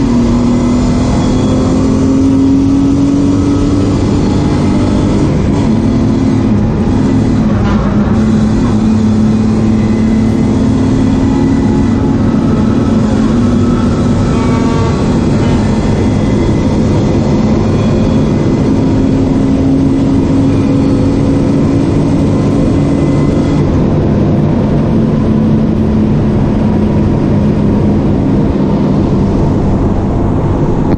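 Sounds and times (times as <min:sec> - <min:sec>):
car engine running hard: 0:00.0 - 0:30.9.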